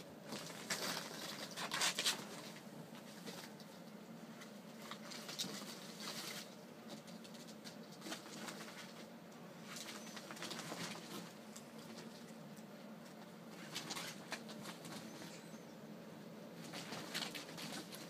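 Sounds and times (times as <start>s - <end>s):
ferrets scrabbling among toys: 0.0s - 15.6s, 16.6s - 18.0s.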